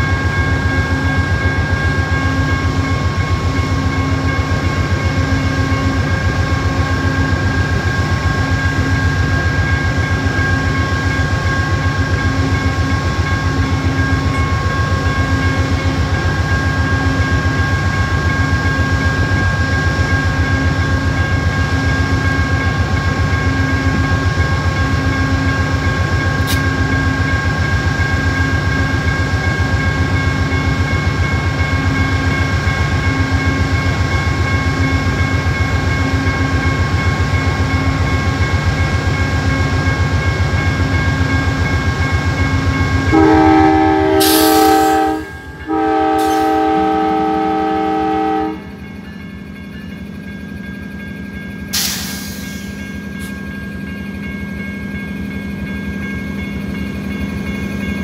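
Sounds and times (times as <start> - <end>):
diesel locomotive engine rumbling: 0.0 - 58.0.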